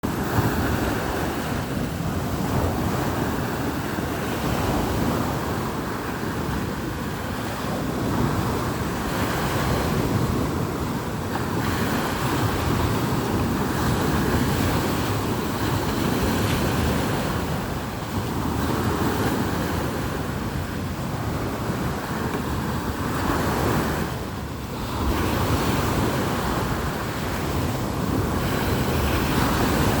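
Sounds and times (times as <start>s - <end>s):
surf breaking on a beach: 0.0s - 30.0s
wind buffeting the microphone: 0.0s - 30.0s.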